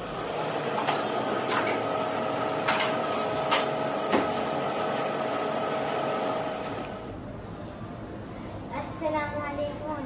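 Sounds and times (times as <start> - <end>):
kitchen machinery electrical whine: 0.0 - 8.8.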